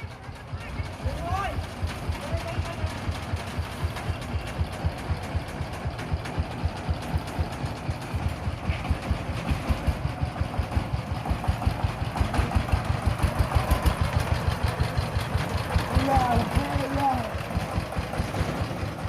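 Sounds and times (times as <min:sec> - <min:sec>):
diesel tractor engine chugging: 0:00.0 - 0:19.0.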